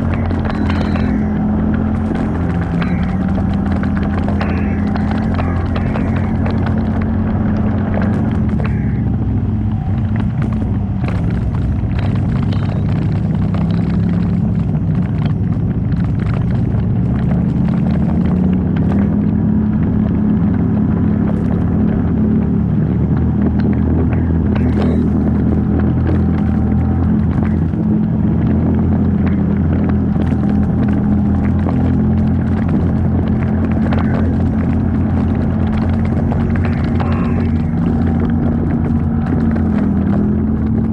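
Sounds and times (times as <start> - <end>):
off-road engine running: 0.0 - 40.9.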